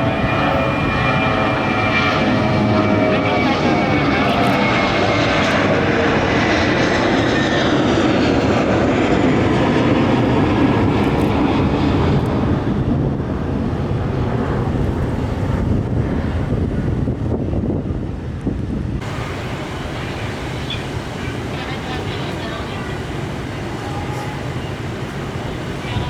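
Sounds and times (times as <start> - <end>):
airliner engines roaring: 0.0 - 26.0.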